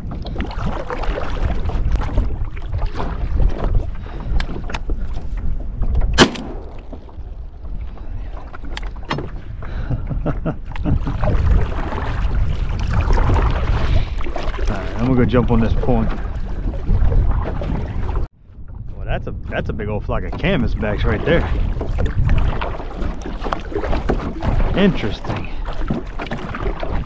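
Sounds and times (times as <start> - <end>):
paddle splashes: 0.0 - 18.3, 20.2 - 27.0.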